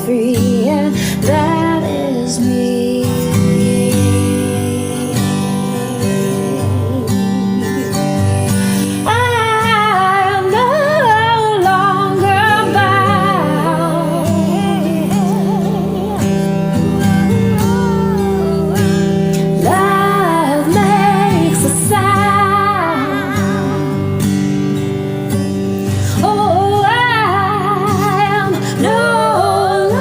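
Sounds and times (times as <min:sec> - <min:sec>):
woman singing with vibrato: 0:00.0 - 0:24.5, 0:25.9 - 0:30.0
acoustic guitar chords: 0:00.0 - 0:30.0.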